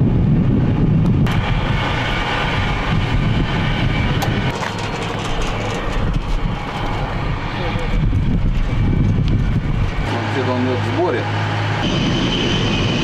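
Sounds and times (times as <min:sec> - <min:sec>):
jet engine rumble and whine: 0:00.0 - 0:13.0.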